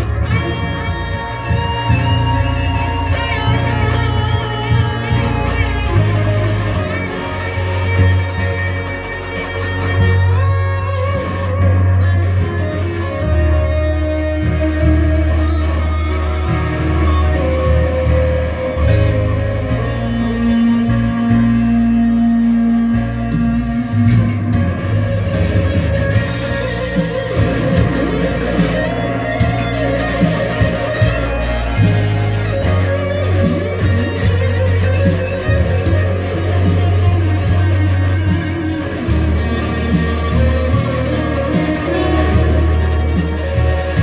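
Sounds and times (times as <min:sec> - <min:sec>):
electric guitar picked notes and chords: 0:00.0 - 0:44.0
low bass notes: 0:00.0 - 0:44.0.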